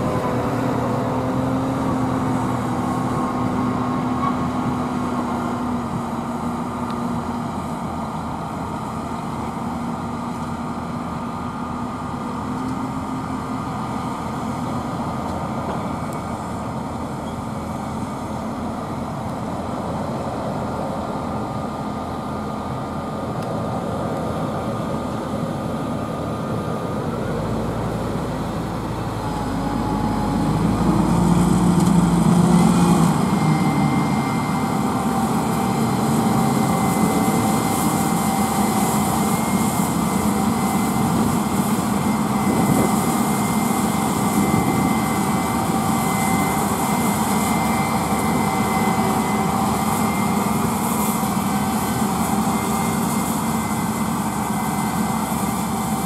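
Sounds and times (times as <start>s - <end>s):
diesel engines droning: 0.0s - 56.0s
threshing machinery whine: 0.0s - 56.0s.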